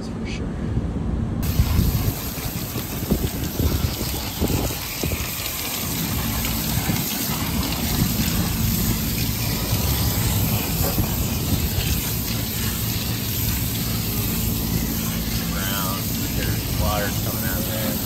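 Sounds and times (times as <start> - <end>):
water dripping on metal roof: 1.4 - 16.4
water spraying on metal coil: 1.4 - 18.0.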